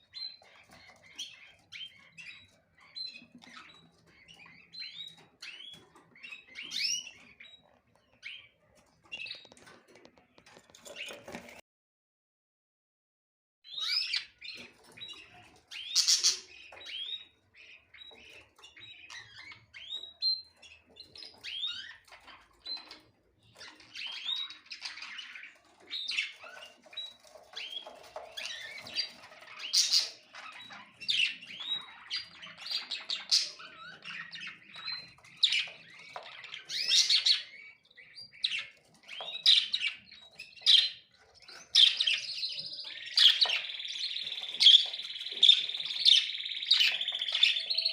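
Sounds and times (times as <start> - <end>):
small birds chirping and squawking: 0.0 - 11.6, 13.6 - 47.9.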